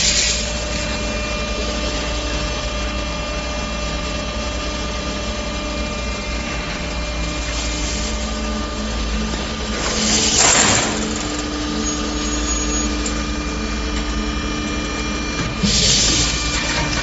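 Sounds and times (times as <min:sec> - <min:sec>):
hydraulic motor and pump humming: 0:00.0 - 0:17.0.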